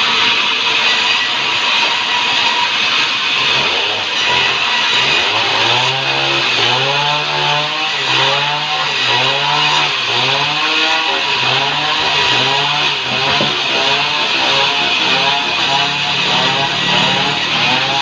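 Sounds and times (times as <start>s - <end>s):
band saw cutting log: 0.0s - 18.0s.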